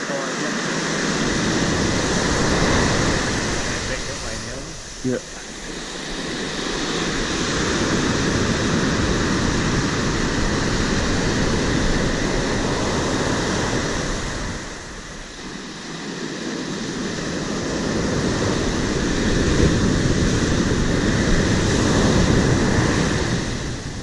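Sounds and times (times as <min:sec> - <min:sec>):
surf breaking on beach: 0:00.0 - 0:24.0
wind on microphone: 0:00.0 - 0:24.0.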